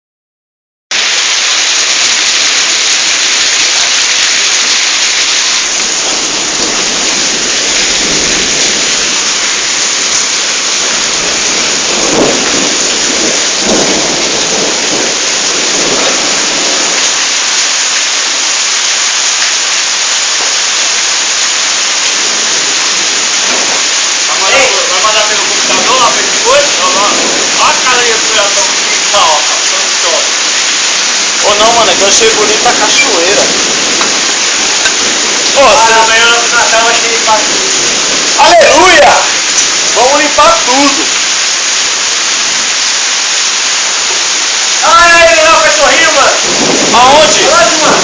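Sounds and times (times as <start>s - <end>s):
heavy rain pouring: 0.9s - 48.0s.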